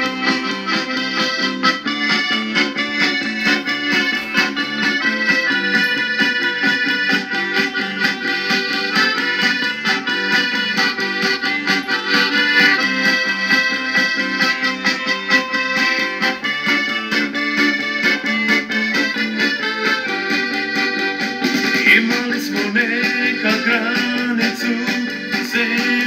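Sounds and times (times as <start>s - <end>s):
live band instrumental music: 0.0s - 26.0s.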